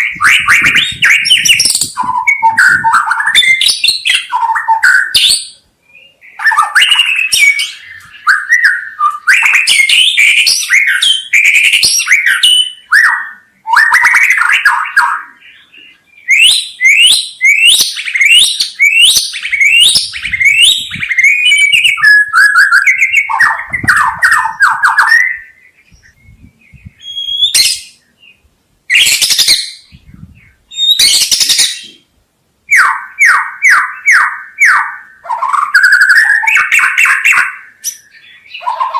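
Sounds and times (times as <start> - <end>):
songbird singing whistles: 0.0 - 32.0, 32.7 - 38.9.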